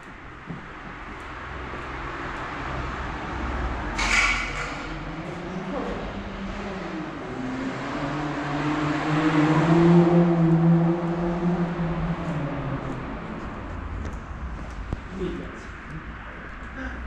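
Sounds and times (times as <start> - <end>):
car passing: 0.2 - 17.0.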